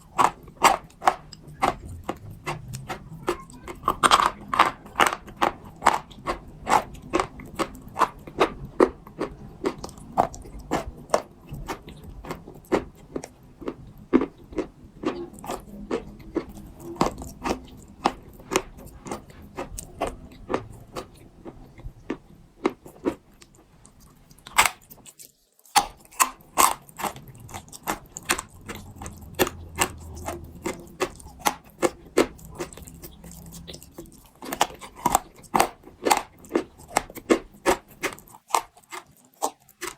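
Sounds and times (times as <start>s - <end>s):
dried clay crunching: 0.0s - 39.9s.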